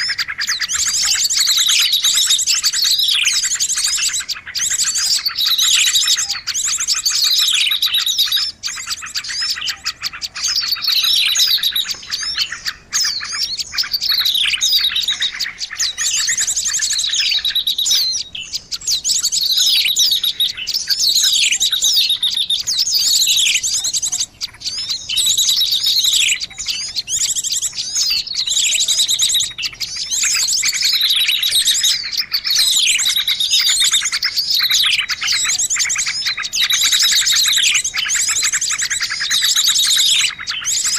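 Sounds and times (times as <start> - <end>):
falling bird call: 0.0 - 40.9
songbirds chirping and trilling: 0.0 - 40.9.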